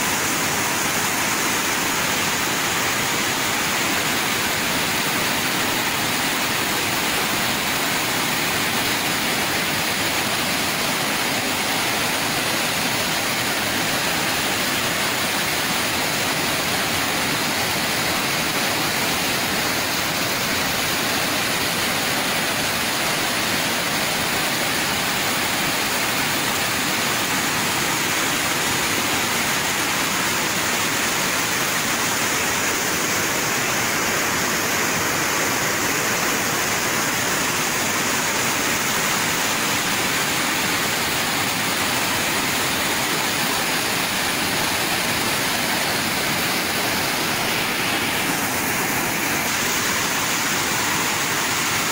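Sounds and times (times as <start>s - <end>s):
floodwater rushing: 0.0s - 51.9s
heavy rain: 0.0s - 51.9s.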